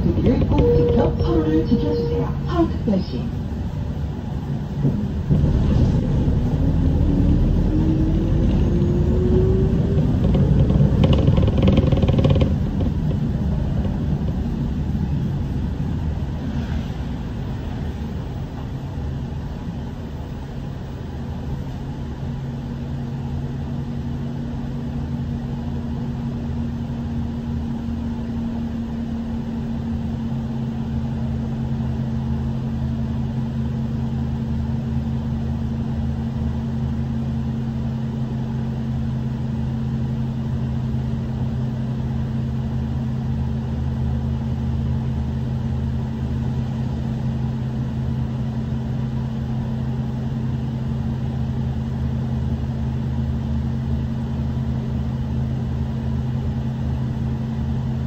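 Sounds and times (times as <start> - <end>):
bus engine whine and rumble: 0.0 - 58.0
low hum of bus running: 0.0 - 58.0.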